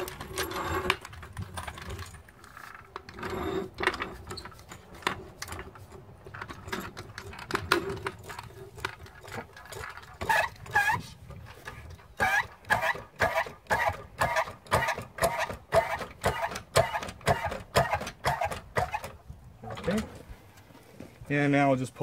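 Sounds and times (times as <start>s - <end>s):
floor jack clicking and creaking: 0.0s - 20.2s.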